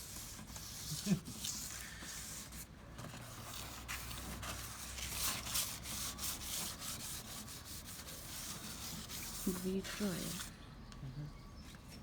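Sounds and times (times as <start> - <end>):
sandpaper rubbing on bumper: 0.0 - 2.7, 3.3 - 10.5.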